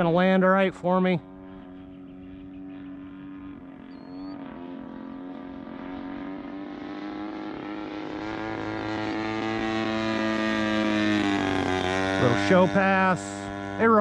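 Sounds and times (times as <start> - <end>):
model plane engine drone: 0.0 - 14.0.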